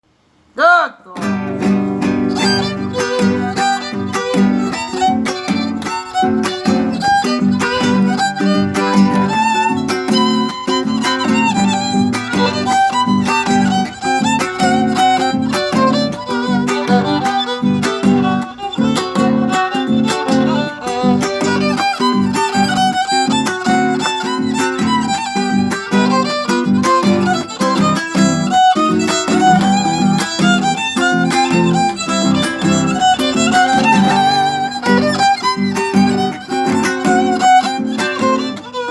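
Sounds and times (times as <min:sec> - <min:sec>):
rhythmic guitar accompaniment: 0:01.1 - 0:38.9
violin melody: 0:01.2 - 0:38.9.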